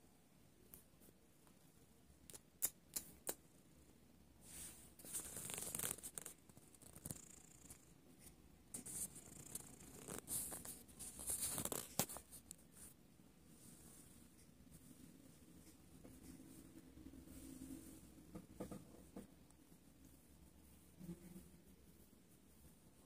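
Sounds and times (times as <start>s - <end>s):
close rustling and scratching: 4.4s - 23.0s.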